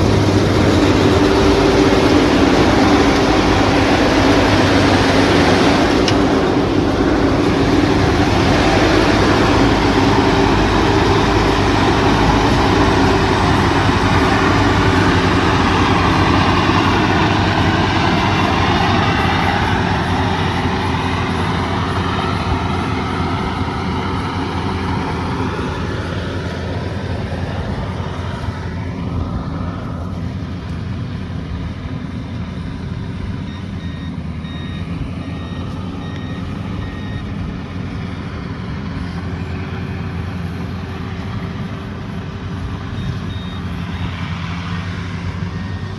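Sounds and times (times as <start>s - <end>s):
farm machine engine running: 0.0s - 45.9s.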